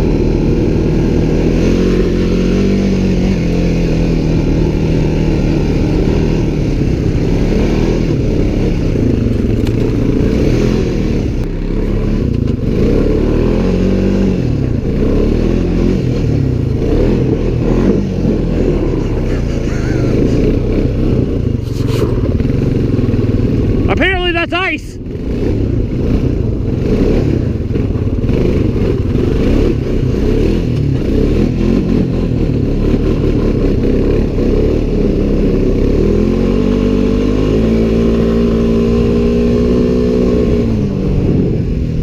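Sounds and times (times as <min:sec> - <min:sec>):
off-road vehicle engine revving: 0:00.0 - 0:42.0.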